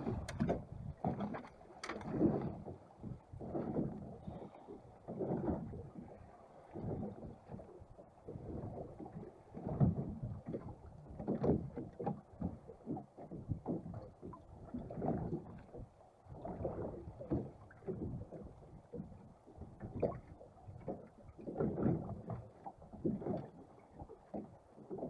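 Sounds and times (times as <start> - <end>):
water lapping against boat hull: 0.0 - 25.0.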